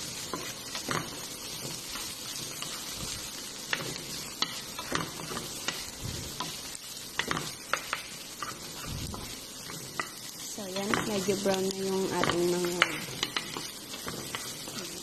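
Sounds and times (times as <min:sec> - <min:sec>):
food sizzling in a frying pan: 0:00.0 - 0:15.0
spatula tapping and scraping pan: 0:00.2 - 0:11.6, 0:12.2 - 0:15.0.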